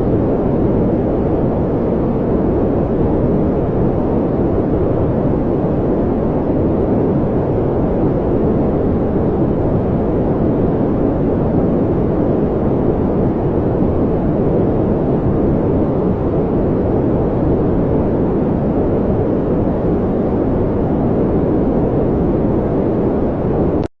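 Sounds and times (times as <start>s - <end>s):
deep rushing brown noise: 0.0s - 23.9s.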